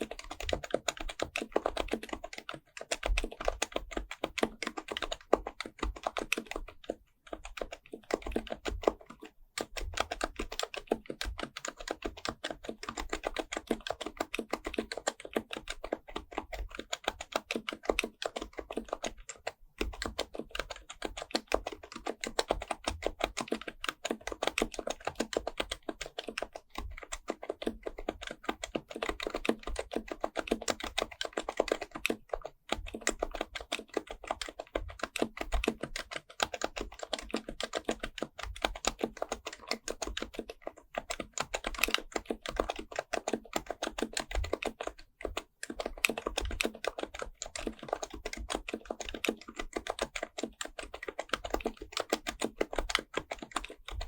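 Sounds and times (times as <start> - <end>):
fast keyboard typing: 0.0 - 54.0.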